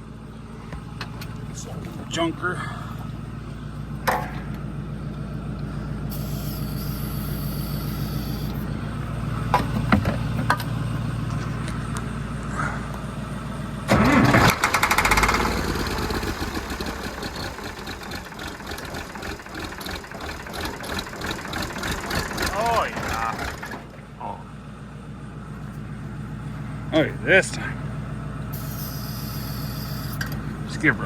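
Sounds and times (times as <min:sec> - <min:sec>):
engine firing and running unevenly: 0:00.0 - 0:31.0
engine cranking on starter: 0:00.6 - 0:24.4, 0:28.4 - 0:31.0.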